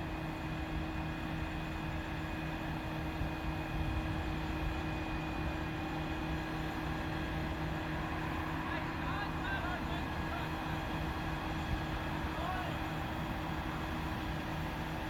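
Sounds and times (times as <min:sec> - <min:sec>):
diesel engine drone: 0:00.0 - 0:15.0
thin steady whine: 0:00.1 - 0:15.0.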